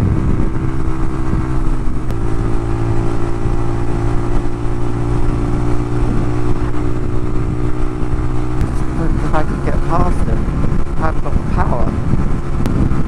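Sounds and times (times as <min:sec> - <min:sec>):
motorcycle engine running hard: 0:00.0 - 0:13.0
wind and road noise: 0:00.0 - 0:13.0.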